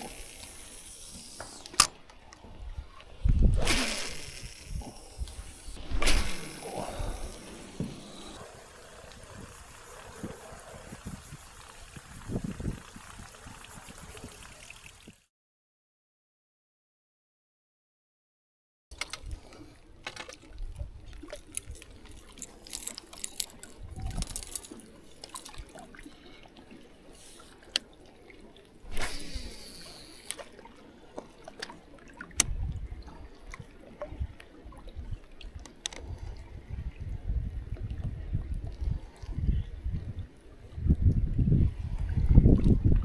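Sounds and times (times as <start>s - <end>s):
water trickling and splashing: 0.0s - 15.2s, 20.2s - 43.0s.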